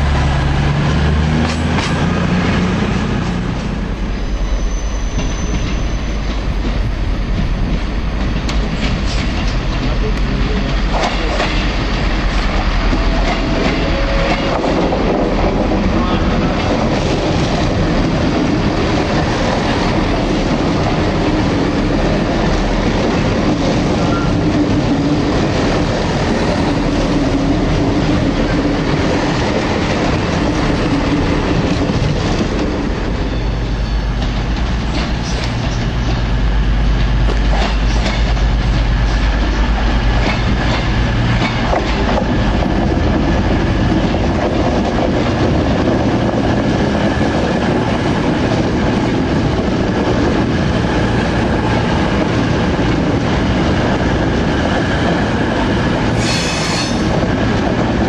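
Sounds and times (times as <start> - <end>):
diesel train engine: 0.0 - 58.0
train wheels clicking over rail joints: 0.8 - 3.8, 4.9 - 33.0, 34.1 - 58.0.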